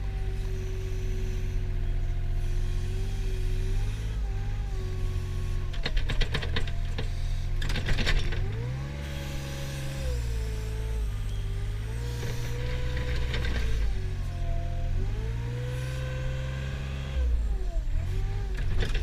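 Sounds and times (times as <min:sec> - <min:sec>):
wheel loader engine working: 0:00.0 - 0:19.0.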